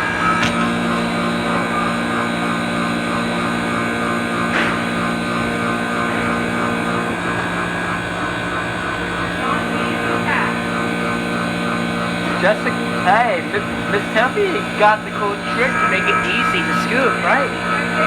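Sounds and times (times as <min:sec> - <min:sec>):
ice machine humming: 0:00.0 - 0:18.0.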